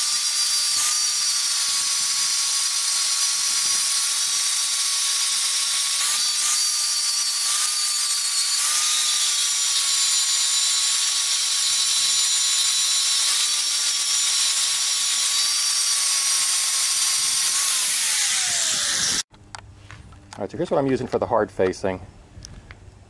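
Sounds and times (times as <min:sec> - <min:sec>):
angle grinder grinding metal: 0:00.0 - 0:19.3.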